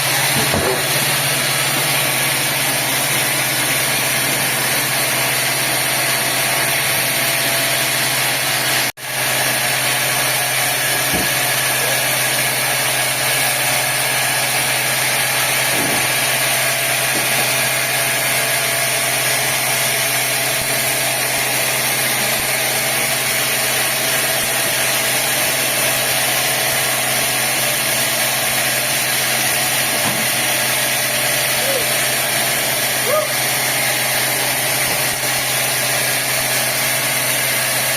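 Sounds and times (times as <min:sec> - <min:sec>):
sawmill machinery running: 0:00.0 - 0:37.9.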